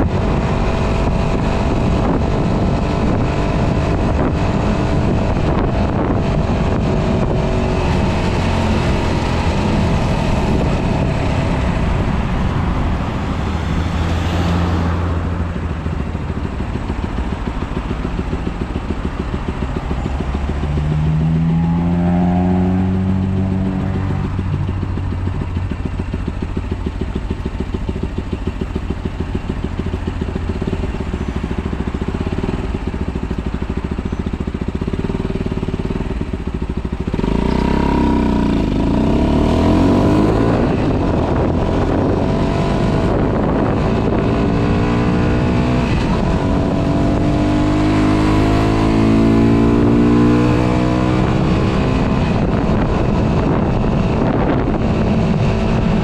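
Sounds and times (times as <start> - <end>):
wind rush on microphone: 0.0 - 21.6, 22.3 - 56.0
motorcycle engine idling and revving: 0.0 - 56.0.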